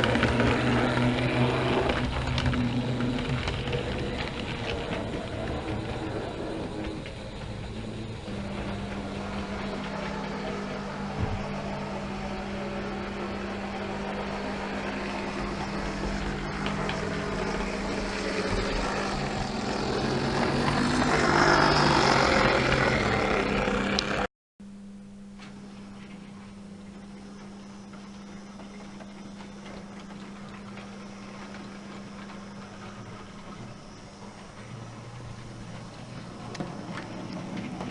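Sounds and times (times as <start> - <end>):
locomotive humming: 0.0 - 24.3, 25.4 - 37.9.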